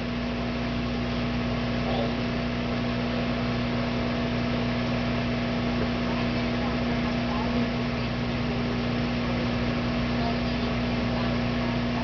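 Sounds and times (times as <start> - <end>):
microwave oven hum: 0.0 - 12.0.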